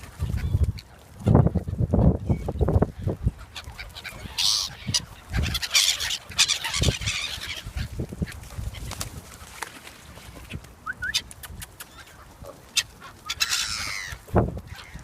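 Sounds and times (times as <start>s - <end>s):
poultry calling: 0.0s - 8.0s, 10.8s - 15.0s.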